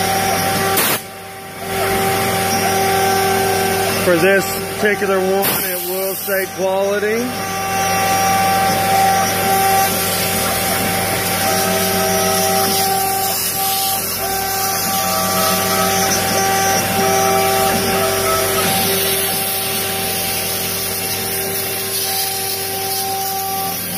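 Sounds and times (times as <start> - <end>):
router spindle whining: 0.0 - 23.9
bit cutting hiss: 2.0 - 23.9.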